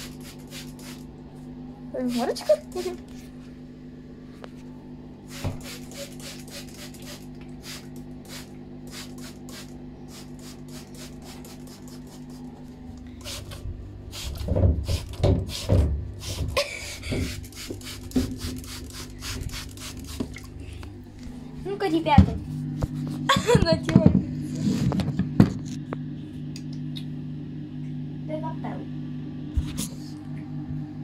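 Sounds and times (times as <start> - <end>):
low hum: 0.0 - 15.2, 15.8 - 31.0.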